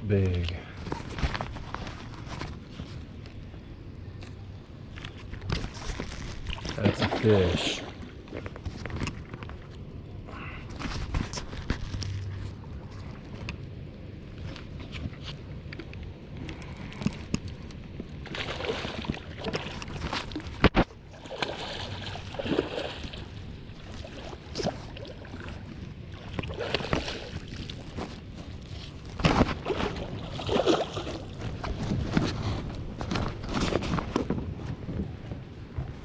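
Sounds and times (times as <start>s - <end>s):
water sloshing around boat: 0.2s - 36.0s.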